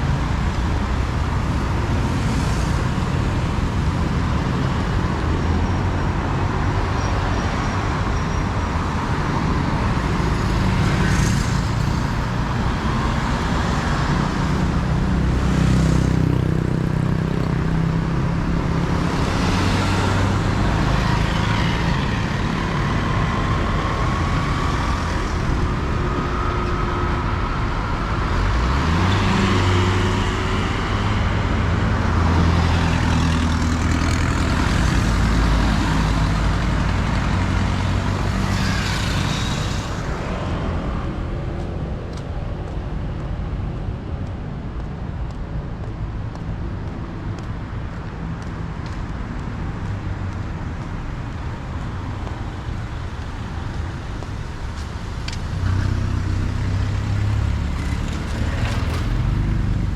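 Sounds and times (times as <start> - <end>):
background traffic hum: 0.0 - 59.9
vehicles passing close by: 0.0 - 59.9.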